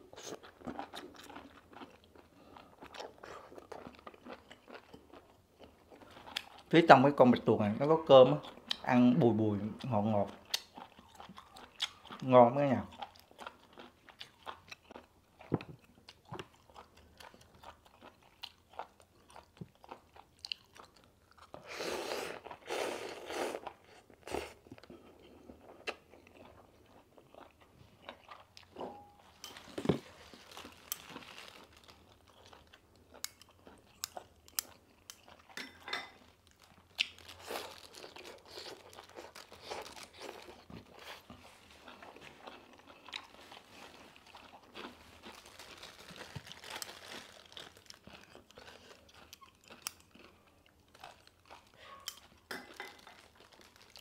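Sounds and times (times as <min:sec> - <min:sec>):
wet crunchy chewing: 0:00.0 - 0:06.7, 0:12.9 - 0:54.0.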